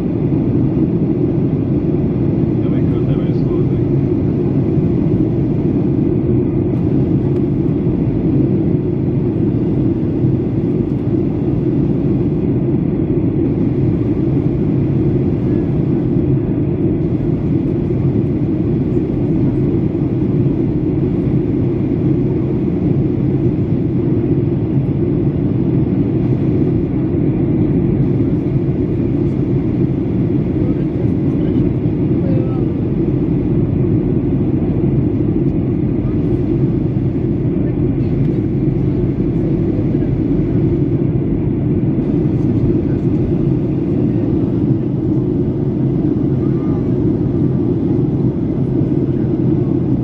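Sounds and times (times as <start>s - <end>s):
airplane cabin rumble: 0.0s - 50.0s.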